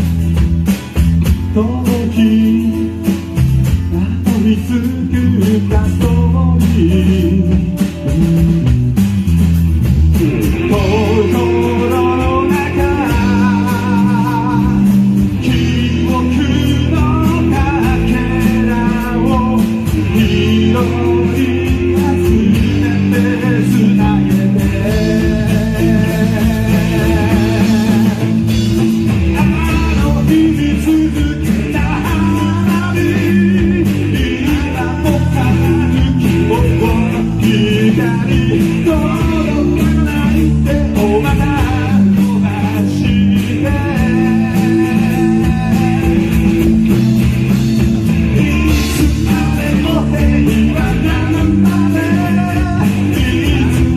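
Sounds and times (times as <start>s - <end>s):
rock band playing: 0.0s - 53.9s
man singing: 1.2s - 8.6s, 10.1s - 53.9s.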